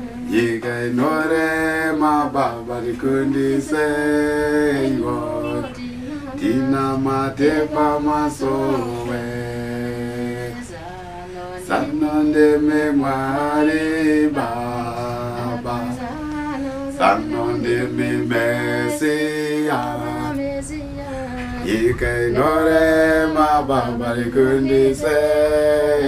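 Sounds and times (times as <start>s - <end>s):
unaccompanied voices singing: 0.0s - 26.0s.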